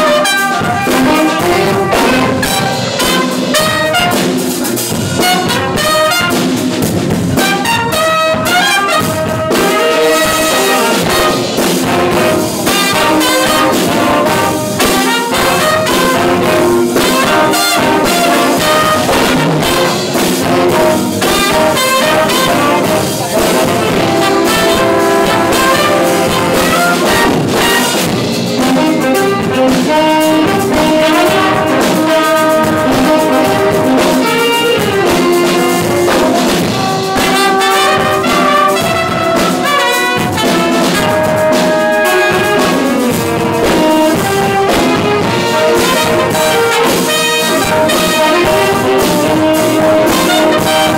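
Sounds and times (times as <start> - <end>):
big band jazz playing: 0.0 - 50.9.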